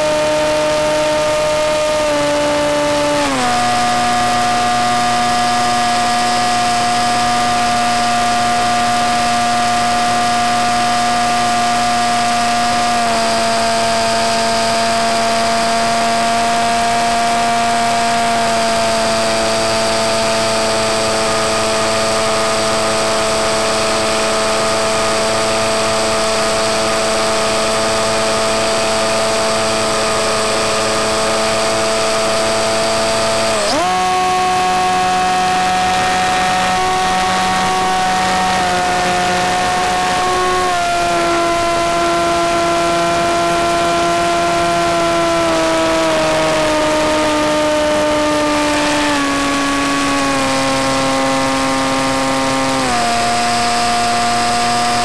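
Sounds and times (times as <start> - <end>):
electric motor and propeller whine: 0.0 - 55.0.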